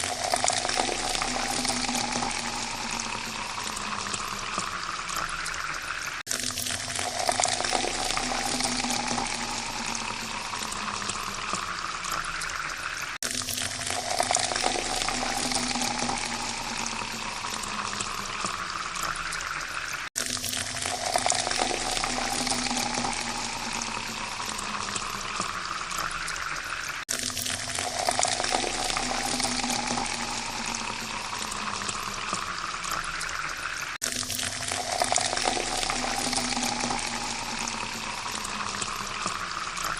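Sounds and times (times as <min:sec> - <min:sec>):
water poured into a glass: 0:00.0 - 0:39.9.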